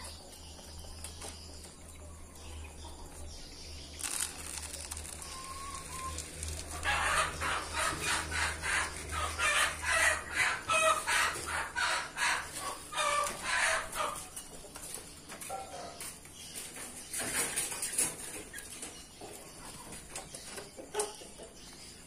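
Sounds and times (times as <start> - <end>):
chicken clucking: 0.0 - 22.0.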